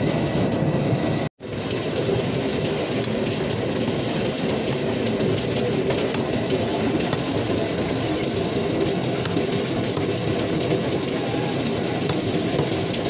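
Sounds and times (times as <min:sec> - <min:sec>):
loud clattering mechanical rumble: 0:00.0 - 0:13.0.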